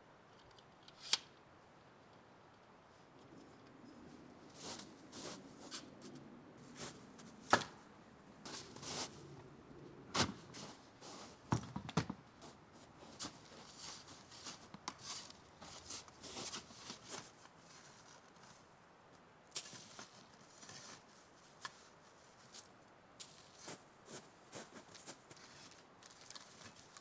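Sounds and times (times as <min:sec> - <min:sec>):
rustles: 0:00.2 - 0:27.0.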